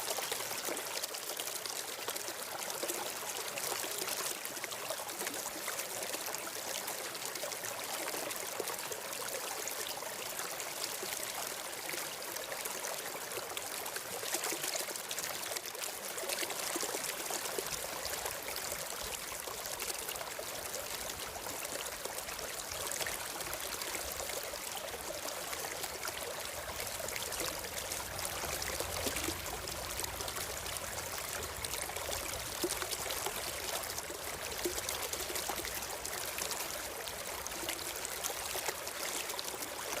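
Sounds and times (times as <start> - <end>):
stream water trickling: 0.0 - 40.0.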